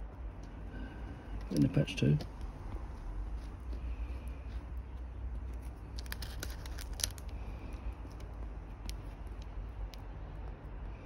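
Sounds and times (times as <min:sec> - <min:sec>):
paint brush ticks and scratches: 0:00.0 - 0:10.9
steady low hum: 0:00.0 - 0:11.0.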